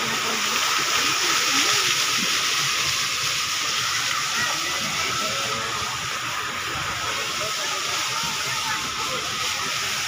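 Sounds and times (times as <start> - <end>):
fountain jets splashing: 0.0 - 10.0.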